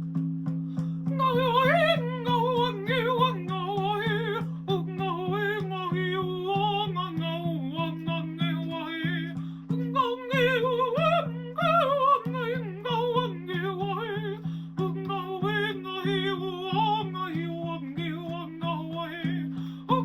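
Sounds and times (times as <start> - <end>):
person singing wordlessly: 1.0 - 20.0.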